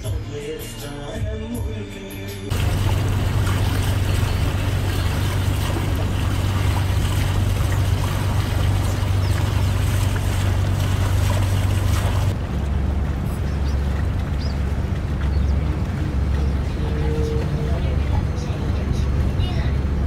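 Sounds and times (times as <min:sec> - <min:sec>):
wind: 0:02.4 - 0:20.0
boat engine humming: 0:02.5 - 0:20.0
rushing water: 0:02.5 - 0:20.0.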